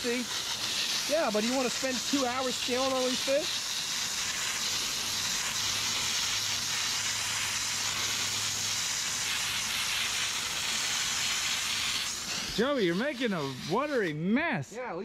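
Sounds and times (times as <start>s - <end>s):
water jet hissing: 0.0s - 15.0s.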